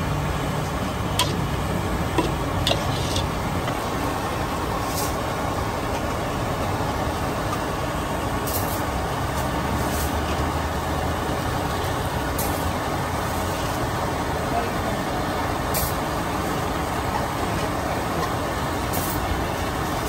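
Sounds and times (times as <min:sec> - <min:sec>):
bus and truck engine rumble: 0:00.0 - 0:20.0
street traffic noise: 0:00.0 - 0:20.0.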